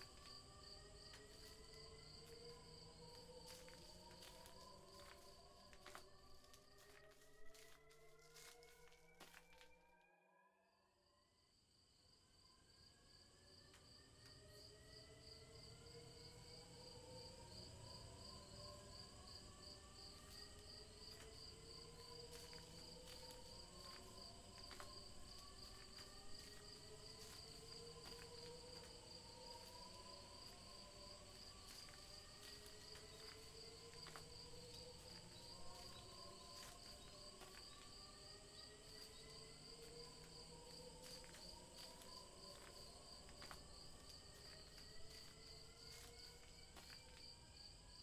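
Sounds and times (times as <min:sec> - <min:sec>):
crickets chirping: 0:00.0 - 0:07.8, 0:12.3 - 0:48.0.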